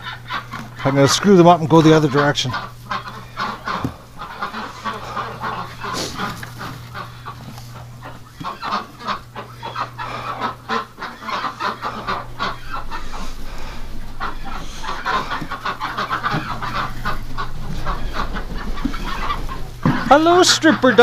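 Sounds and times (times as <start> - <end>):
ducks quacking: 0.0 - 21.0
steady low hum: 0.0 - 21.0.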